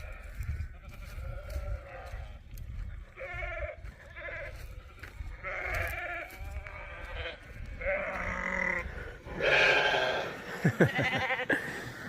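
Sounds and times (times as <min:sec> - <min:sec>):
sheep bleating through speaker: 0:00.0 - 0:02.4, 0:03.1 - 0:11.6.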